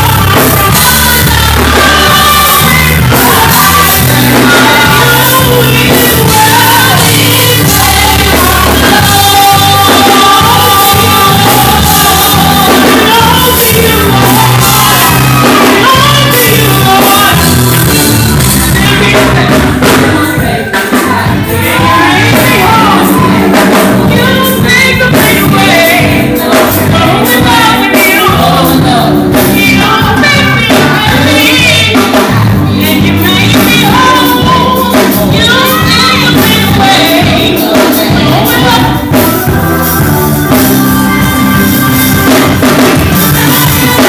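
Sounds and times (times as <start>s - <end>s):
loud gospel music with singing: 0.0s - 44.0s.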